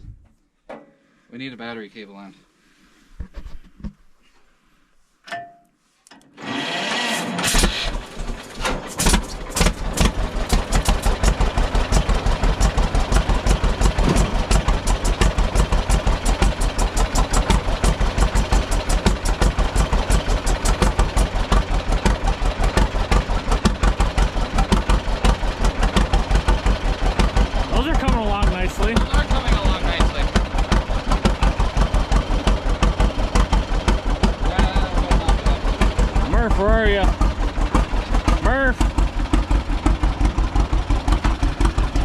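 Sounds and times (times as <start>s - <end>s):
starter cranking: 6.2s - 42.0s
tractor engine running: 6.4s - 42.0s.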